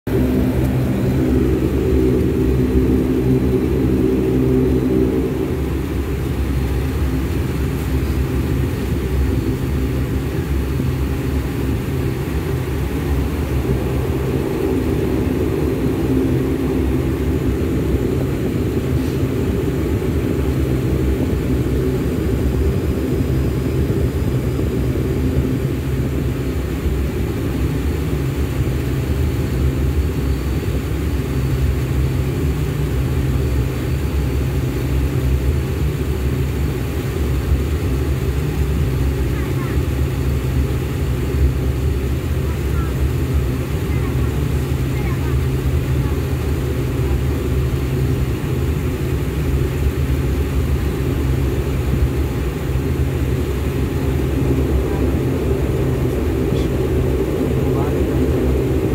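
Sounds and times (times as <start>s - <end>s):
airplane engines droning: 0.0s - 58.9s.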